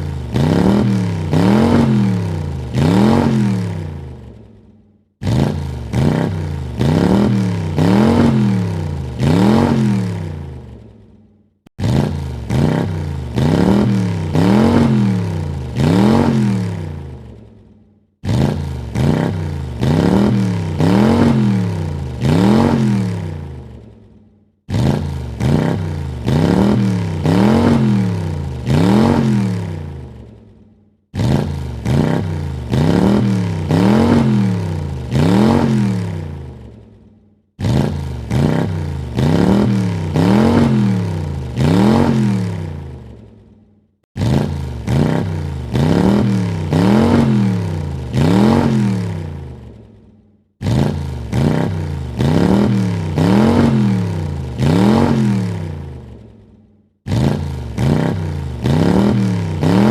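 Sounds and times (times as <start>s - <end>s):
car engine revving: 0.0s - 4.5s, 5.2s - 10.9s, 11.7s - 17.4s, 18.2s - 23.9s, 24.7s - 30.5s, 31.1s - 36.8s, 37.6s - 43.3s, 44.2s - 49.8s, 50.6s - 56.3s, 57.1s - 59.9s.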